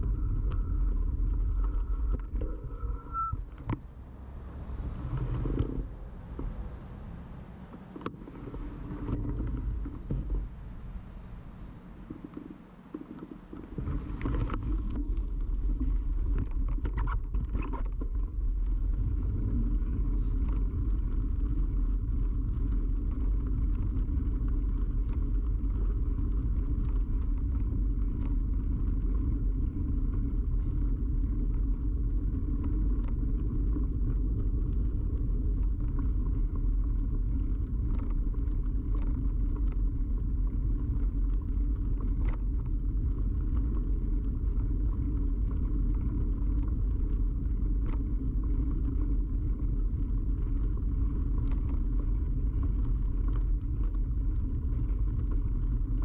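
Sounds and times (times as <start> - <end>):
bicycle rumble: 0.0 - 56.0
faint clicks and rattles: 0.0 - 56.0.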